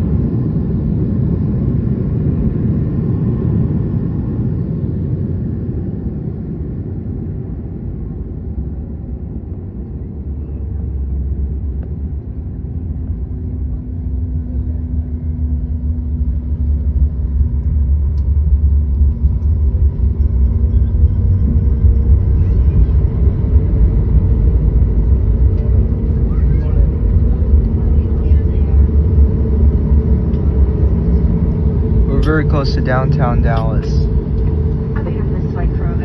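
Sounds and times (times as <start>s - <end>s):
airplane cabin rumble: 0.0s - 36.0s
faint engine tones: 0.0s - 36.0s.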